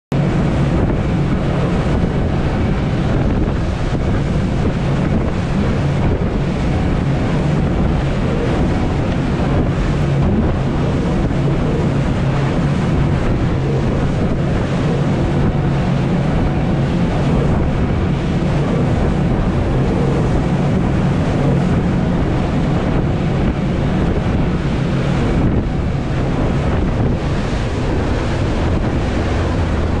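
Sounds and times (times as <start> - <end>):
outboard motors droning: 0.1 - 30.0
rush of boat wake: 0.1 - 30.0
wind buffeting microphone: 0.1 - 30.0.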